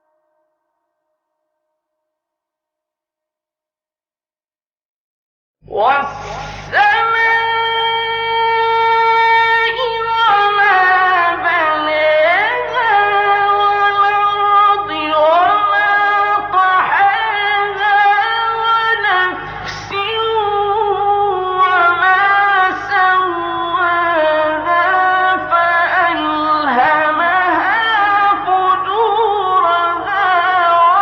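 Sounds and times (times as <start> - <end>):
man chanting melodically: 5.7 - 31.0.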